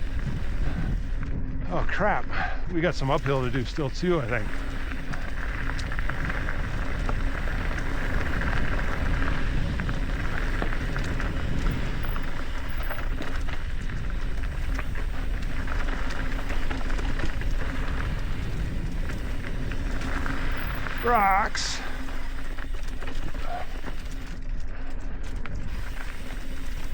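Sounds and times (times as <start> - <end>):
tyres crunching on gravel: 0.0 - 1.3, 2.8 - 26.9
bike clicks and rattles: 0.0 - 1.8, 2.4 - 26.9.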